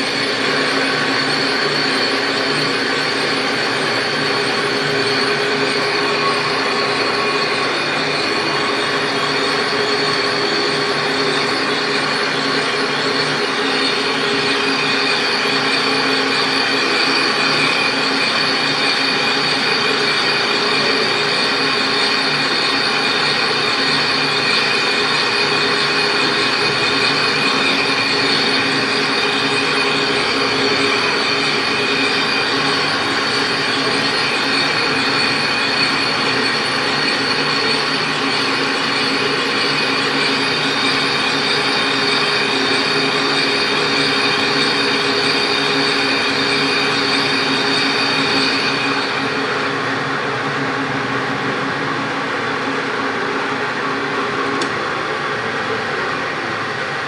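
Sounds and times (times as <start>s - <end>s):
machine running with high whine: 0.0s - 57.0s.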